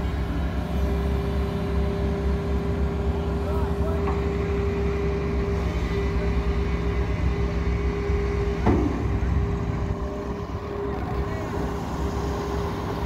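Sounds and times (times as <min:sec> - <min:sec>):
excavator engine rumble and whine: 0:00.0 - 0:13.0.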